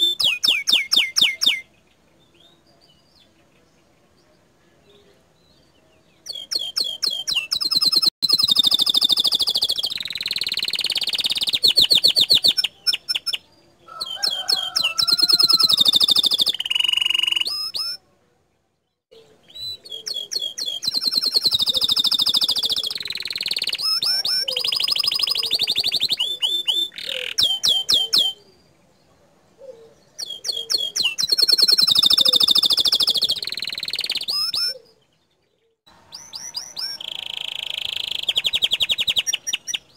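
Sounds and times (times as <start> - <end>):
canary singing trills: 0.0 - 4.5, 5.1 - 18.1, 18.8 - 39.9.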